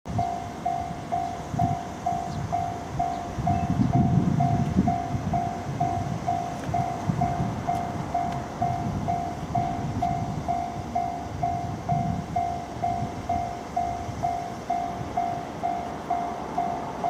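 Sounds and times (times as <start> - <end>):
level crossing warning bell: 0.1 - 17.0.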